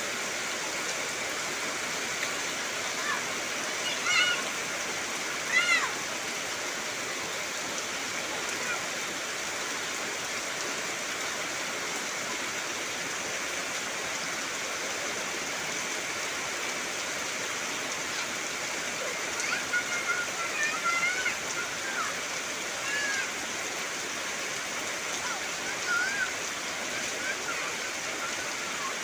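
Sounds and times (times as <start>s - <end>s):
heavy rain on foliage: 0.0s - 29.0s.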